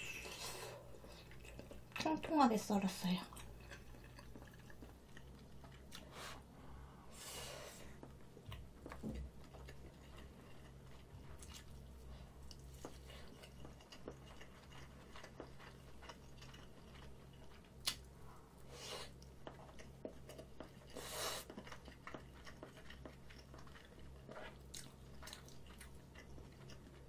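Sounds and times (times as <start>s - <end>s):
person chewing food: 0.0s - 2.0s, 3.3s - 6.9s, 7.7s - 27.0s
steady low hum: 0.0s - 27.0s.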